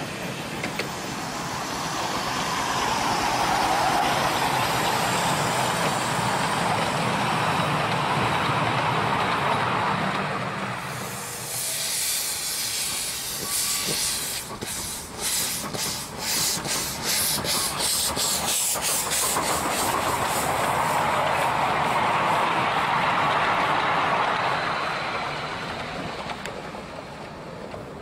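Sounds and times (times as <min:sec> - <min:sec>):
steam locomotive hissing: 0:00.0 - 0:08.2, 0:10.6 - 0:27.6.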